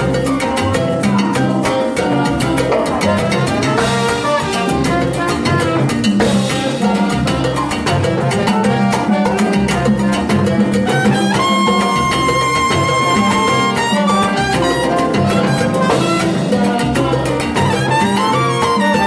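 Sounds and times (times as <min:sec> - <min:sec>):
live salsa band playing: 0:00.0 - 0:19.0
pulsing bass line: 0:00.0 - 0:19.0
timbales and congas: 0:00.0 - 0:19.0.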